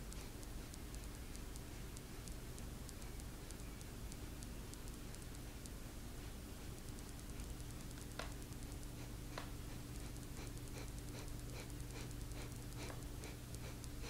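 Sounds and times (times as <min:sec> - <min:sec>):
puppy snoring with clicky snuffles: 0:00.0 - 0:14.0
steady low hum: 0:00.0 - 0:14.0.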